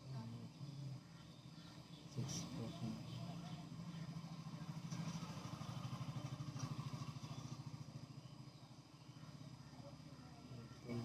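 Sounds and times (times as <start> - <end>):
small engine running: 0.5 - 11.0.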